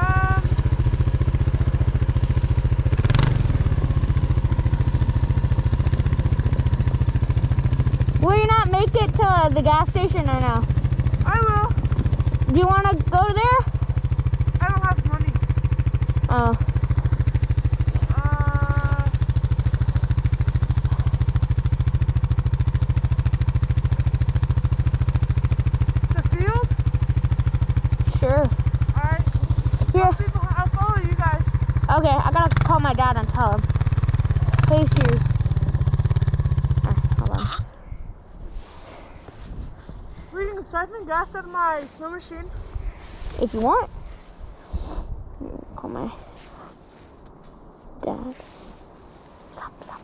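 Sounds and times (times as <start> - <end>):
snowmobile engine idling: 0.0 - 47.1.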